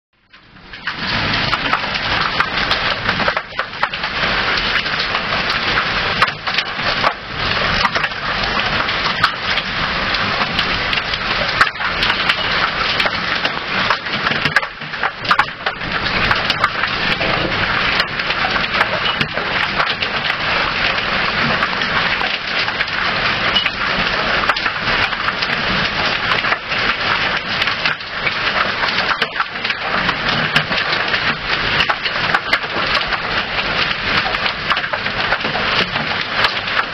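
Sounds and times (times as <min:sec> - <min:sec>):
hail and heavy rain falling: 0:00.7 - 0:36.9.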